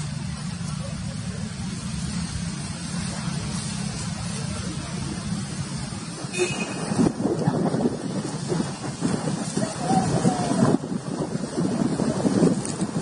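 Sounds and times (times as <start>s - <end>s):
low engine drone: 0.0s - 13.0s
rough crackling noise: 0.0s - 13.0s.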